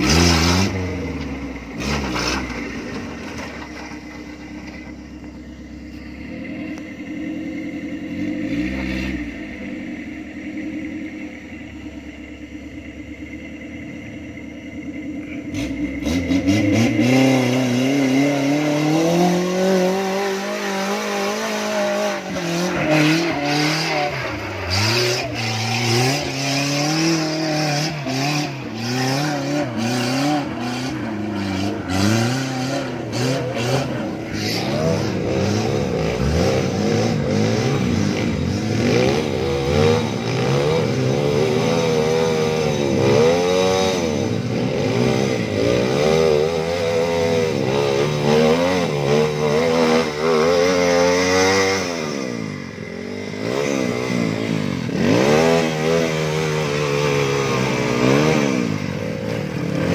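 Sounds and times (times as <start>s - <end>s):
buggy engine revving: 0.0s - 59.9s
motorcycle engine: 0.0s - 59.9s.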